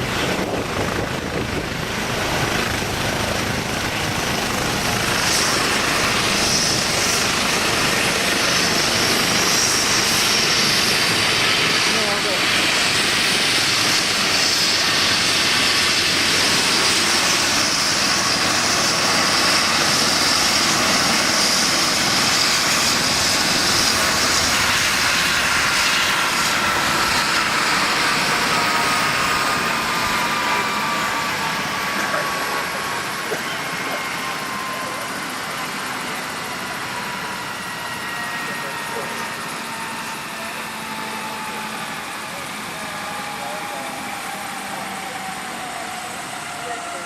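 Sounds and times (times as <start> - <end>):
helicopter turbine and rotor whine: 0.0 - 47.0.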